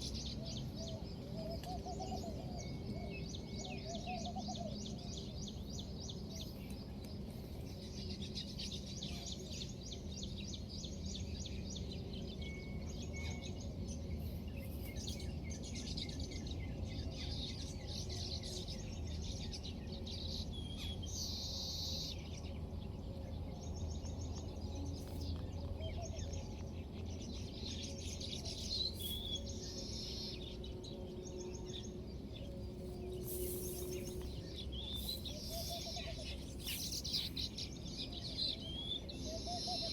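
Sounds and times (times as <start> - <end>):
low background hum: 0.0 - 39.9
small birds chirping: 0.0 - 39.9.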